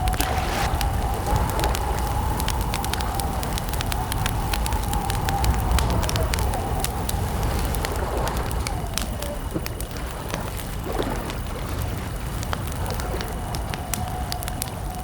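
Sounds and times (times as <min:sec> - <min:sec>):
water lapping: 0:00.0 - 0:14.7
campfire crackling and popping: 0:00.0 - 0:15.0
crickets chirring: 0:00.0 - 0:15.0.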